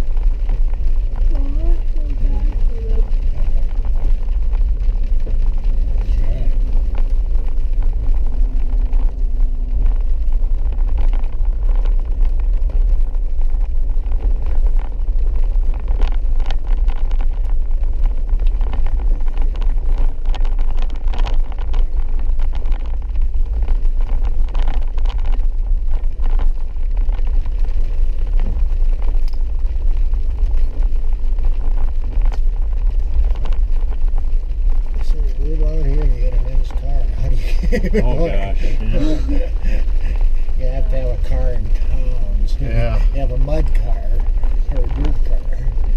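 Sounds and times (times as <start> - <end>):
vehicle engine and tyre rumble: 0.0 - 45.9.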